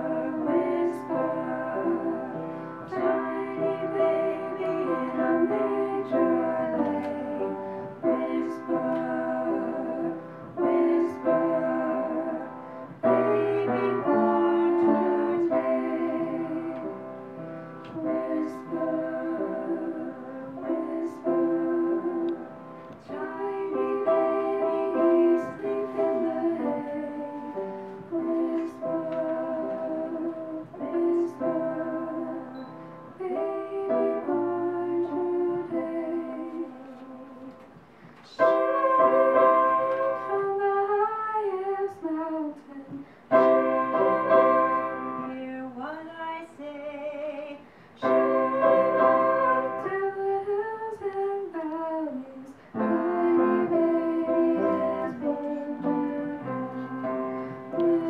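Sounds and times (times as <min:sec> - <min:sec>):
piano accompaniment: 0:00.0 - 0:58.0
woman singing slow song: 0:00.0 - 0:58.0.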